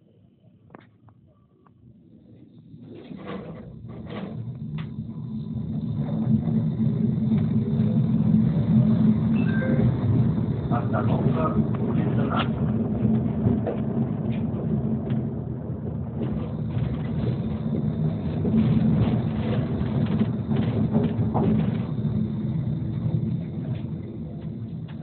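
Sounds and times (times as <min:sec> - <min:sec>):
tram rumbling on rails: 0:01.5 - 0:25.0.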